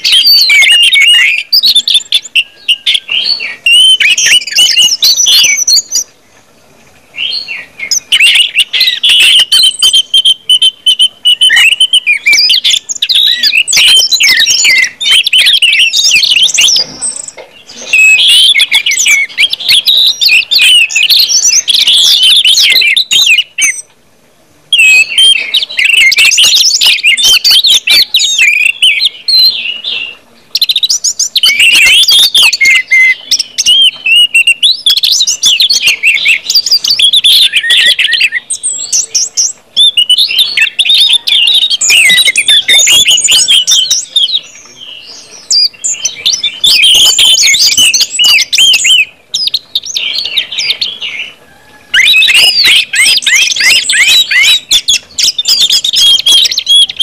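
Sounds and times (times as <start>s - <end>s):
thrushes singing: 0.0s - 57.0s.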